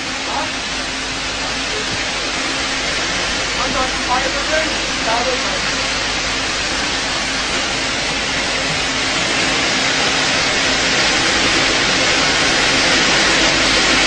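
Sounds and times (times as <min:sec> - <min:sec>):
loud rushing hiss: 0:00.0 - 0:14.0.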